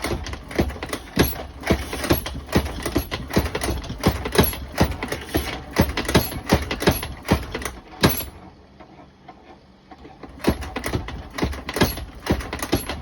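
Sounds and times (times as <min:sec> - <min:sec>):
machine rhythmic clacking: 0:00.0 - 0:08.4, 0:10.3 - 0:13.0.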